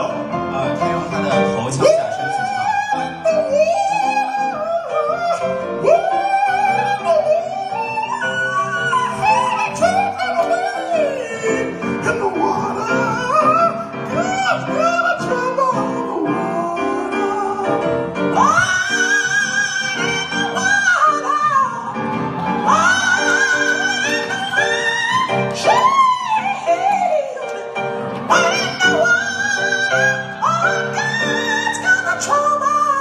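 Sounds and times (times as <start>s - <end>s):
instrumental accompaniment: 0.0s - 33.0s.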